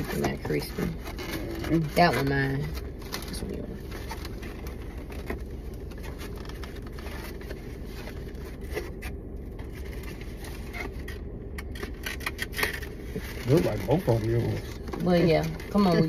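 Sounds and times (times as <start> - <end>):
bags and containers rustling: 0.0 - 11.2, 11.8 - 16.0
car cabin rumble: 0.0 - 16.0.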